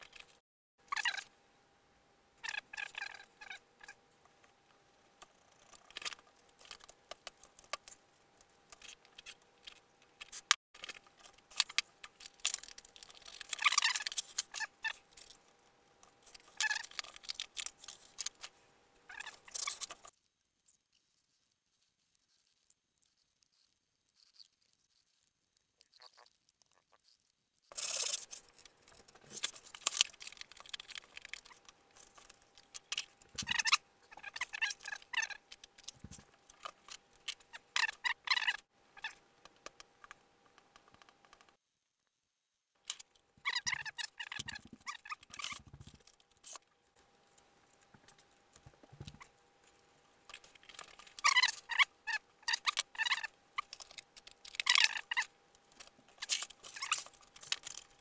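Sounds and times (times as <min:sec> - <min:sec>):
rustling and scraping of foam parts: 0:02.4 - 0:41.7, 0:42.8 - 0:58.0.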